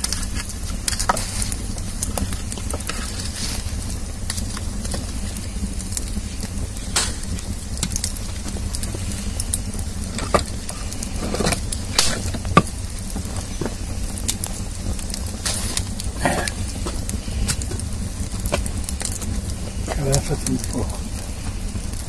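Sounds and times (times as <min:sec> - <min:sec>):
low fire rush: 0:00.0 - 0:22.0
wood fire crackling and popping: 0:00.0 - 0:22.0.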